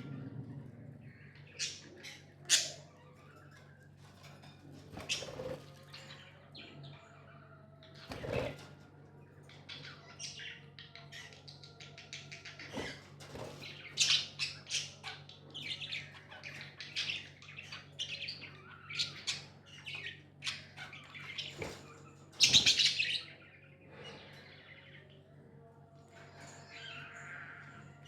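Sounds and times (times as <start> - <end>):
budgies chirping and chattering: 0.0 - 28.0.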